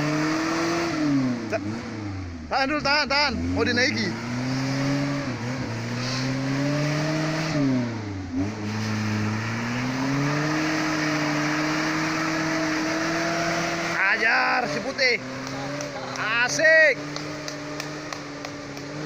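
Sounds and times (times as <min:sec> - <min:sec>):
off-road vehicle engine under load: 0:00.0 - 0:19.0.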